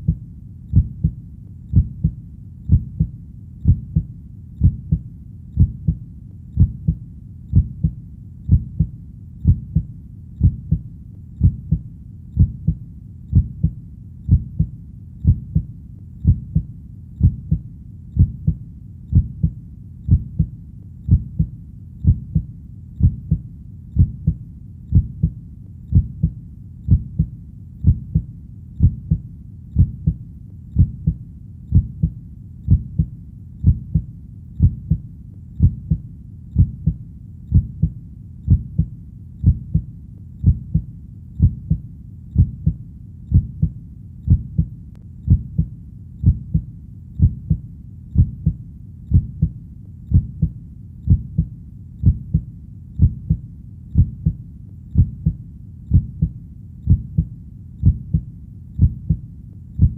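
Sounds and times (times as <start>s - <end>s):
heartbeat thumps: 0.0s - 59.2s.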